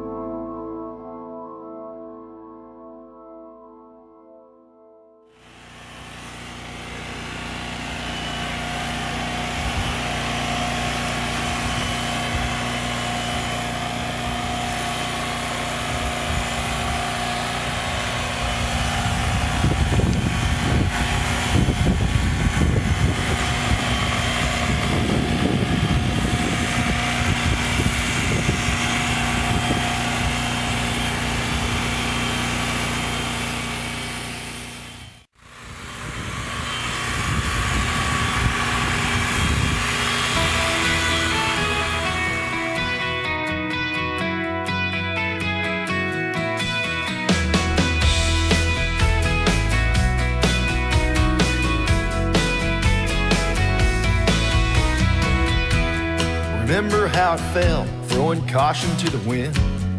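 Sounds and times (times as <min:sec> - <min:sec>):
portable generator running: 0:05.3 - 0:59.9
electric clippers motor humming: 0:05.4 - 0:43.6, 0:46.4 - 0:56.6.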